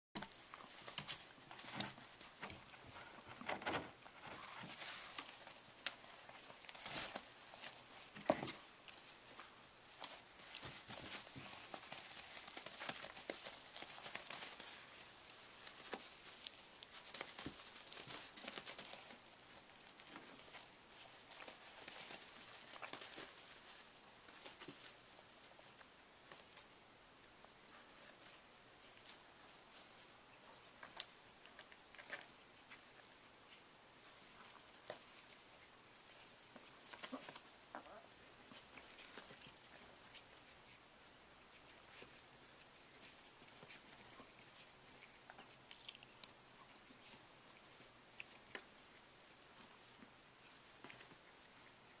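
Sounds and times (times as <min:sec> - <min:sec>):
training pad crinkling under paws: 0:00.2 - 0:26.7, 0:27.7 - 0:40.9, 0:41.5 - 0:52.0
small ticks and scratches: 0:00.2 - 0:26.8, 0:27.4 - 0:52.0.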